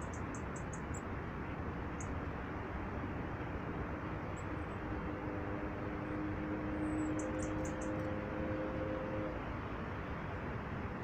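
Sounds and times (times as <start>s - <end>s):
distant engine drone: 0.0s - 11.0s
steady outdoor rumble: 0.0s - 11.0s.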